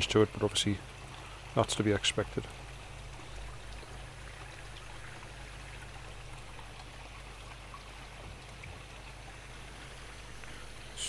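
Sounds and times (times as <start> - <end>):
water trickling in pond: 0.0 - 11.0.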